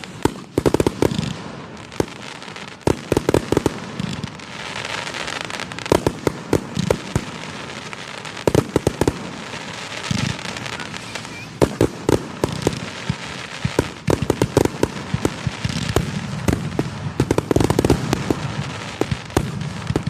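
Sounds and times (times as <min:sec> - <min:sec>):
fireworks bangs: 0:00.0 - 0:20.0
fireworks crackling and hissing: 0:00.0 - 0:20.0.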